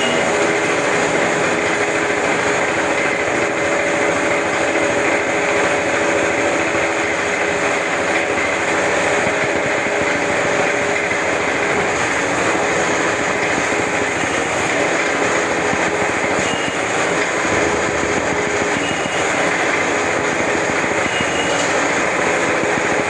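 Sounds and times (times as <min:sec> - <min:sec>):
lathe running: 0:00.0 - 0:23.0.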